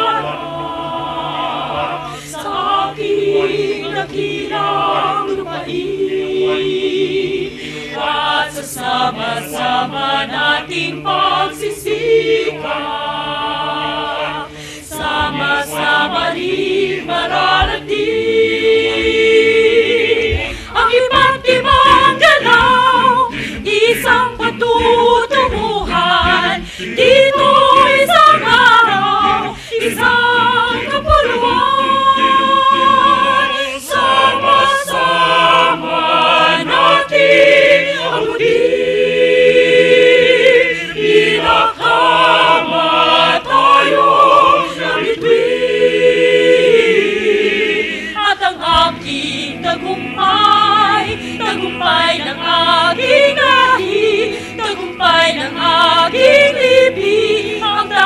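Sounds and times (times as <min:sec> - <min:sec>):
mixed choir singing in harmony: 0:00.0 - 0:58.0.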